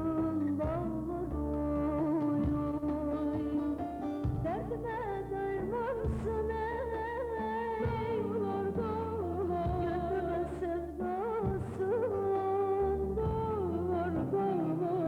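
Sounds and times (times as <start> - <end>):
instrumental backing: 0.0 - 15.0
woman singing: 0.0 - 15.0.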